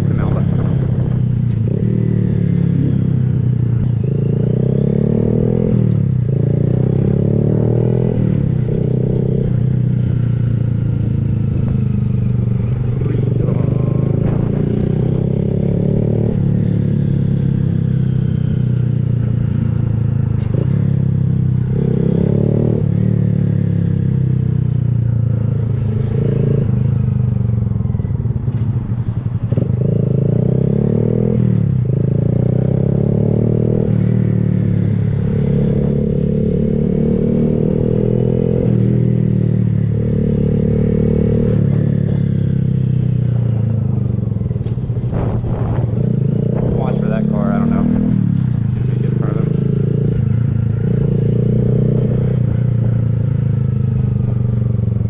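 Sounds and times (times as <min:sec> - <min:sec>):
low wind rumble: 0:00.0 - 0:55.0
motorcycle engine revving: 0:00.0 - 0:55.0.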